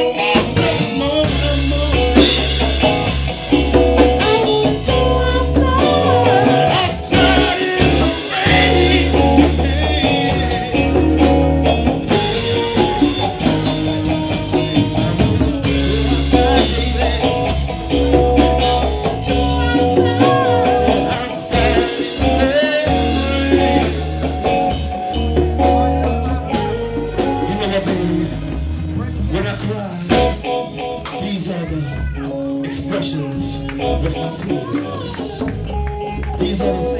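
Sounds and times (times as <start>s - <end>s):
electric bass line: 0.0s - 36.9s
live blues band playing: 0.0s - 36.9s.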